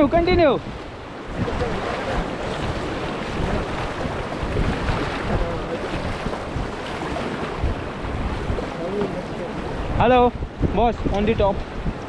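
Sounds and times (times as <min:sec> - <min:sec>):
whitewater rushing and splashing: 0:00.0 - 0:11.9
wind buffeting microphone: 0:00.0 - 0:12.0.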